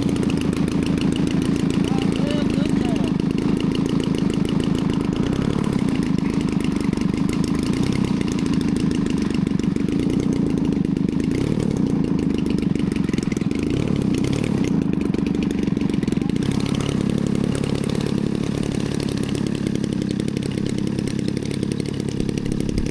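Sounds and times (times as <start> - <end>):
model plane engine running: 0.0 - 22.9.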